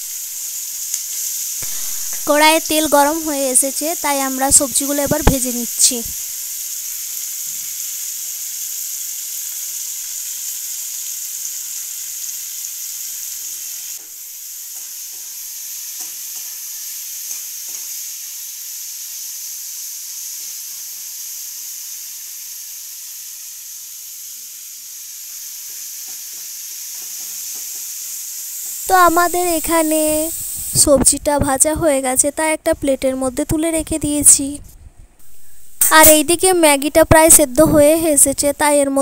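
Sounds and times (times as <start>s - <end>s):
vegetables sizzling in hot oil: 0.0s - 34.6s, 35.2s - 39.0s.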